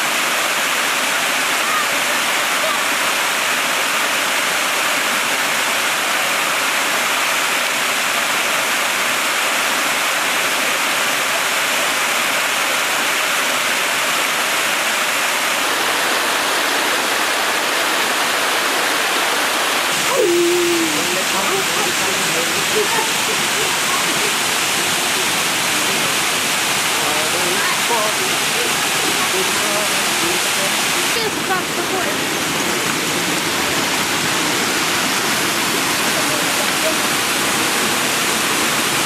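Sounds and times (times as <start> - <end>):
waterfall splashing over rock: 0.0 - 39.0.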